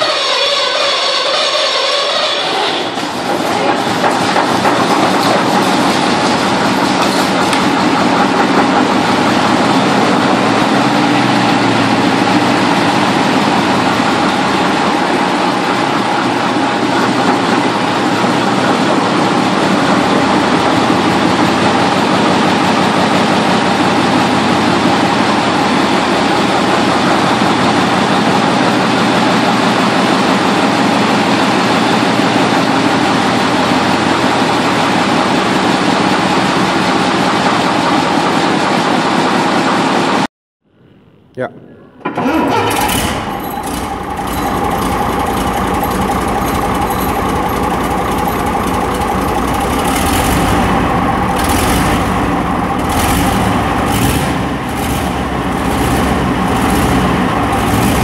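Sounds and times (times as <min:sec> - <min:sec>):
diesel engine running: 0:00.0 - 0:40.3, 0:42.0 - 0:58.0.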